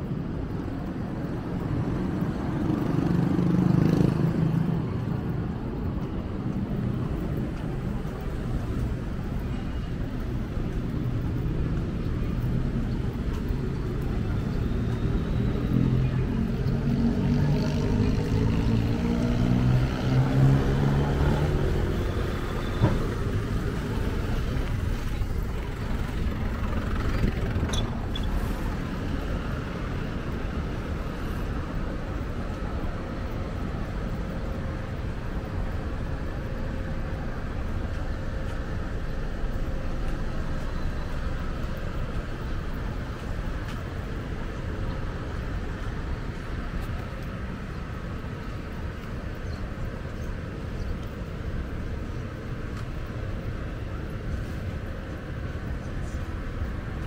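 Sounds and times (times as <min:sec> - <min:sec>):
rumble of passing cars: 0:00.0 - 0:57.0.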